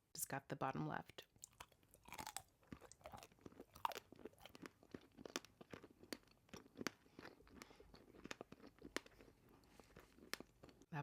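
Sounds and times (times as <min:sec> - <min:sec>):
crunching and chewing candy: 0:01.2 - 0:11.0.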